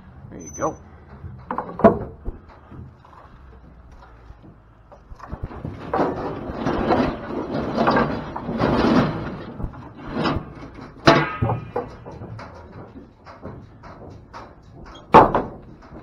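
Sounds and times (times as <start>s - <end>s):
metal gate rattling and scraping: 0.0s - 16.0s.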